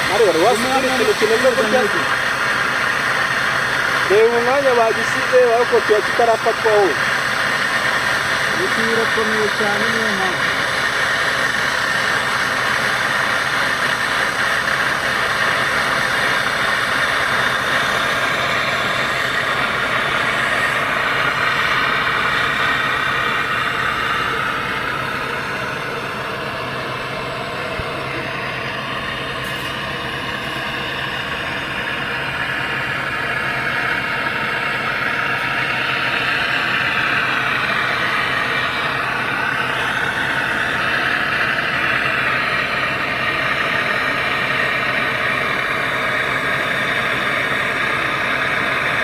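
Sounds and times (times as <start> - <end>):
torch flame hissing: 0.0 - 49.0.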